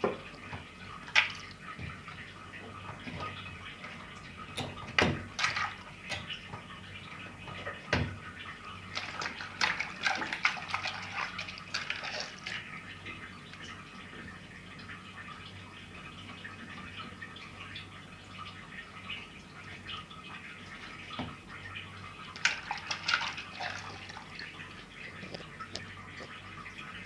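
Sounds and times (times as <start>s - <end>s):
water splashing and dripping: 0.0s - 27.0s.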